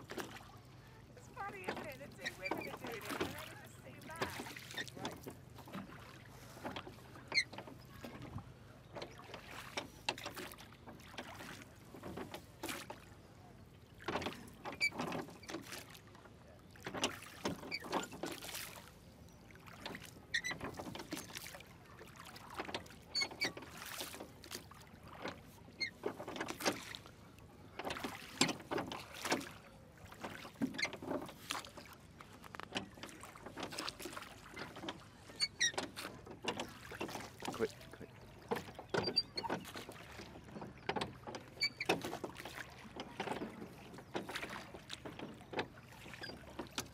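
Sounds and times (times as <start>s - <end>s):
oars knocking in rowlocks: 0.0s - 46.9s
oars splashing in water: 0.0s - 46.9s.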